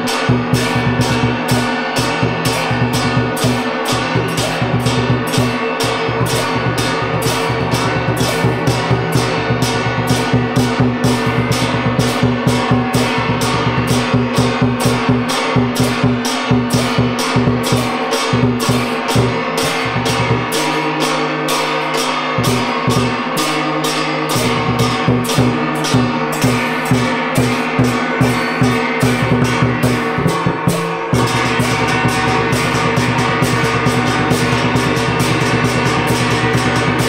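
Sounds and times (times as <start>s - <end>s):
barrel drum: 0.0s - 37.0s
gongs struck with sticks: 0.0s - 37.0s.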